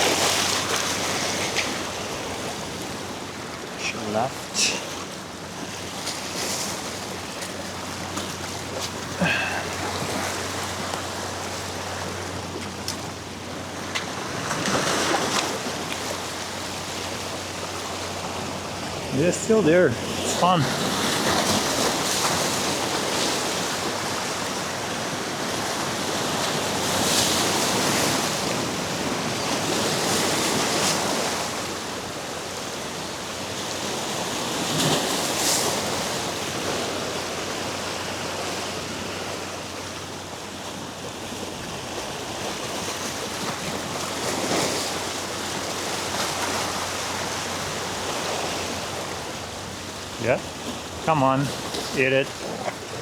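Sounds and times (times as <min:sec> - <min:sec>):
waves washing against rocks: 0:00.0 - 0:53.0
wind: 0:00.0 - 0:53.0.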